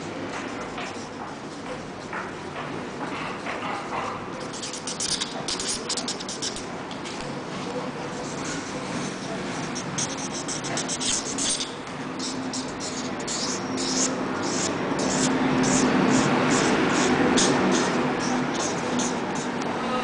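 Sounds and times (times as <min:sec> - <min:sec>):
marker scratching on paper: 0:00.0 - 0:06.7, 0:07.6 - 0:19.6
low background murmur: 0:00.4 - 0:20.0.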